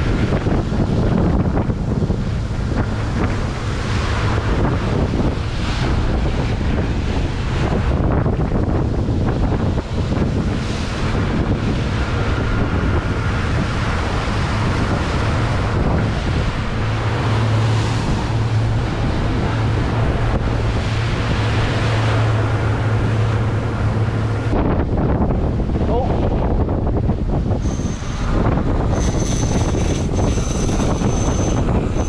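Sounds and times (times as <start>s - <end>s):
boat motor drone: 0.0s - 32.0s
wake water rushing: 0.0s - 32.0s
wind buffeting microphone: 0.0s - 32.0s.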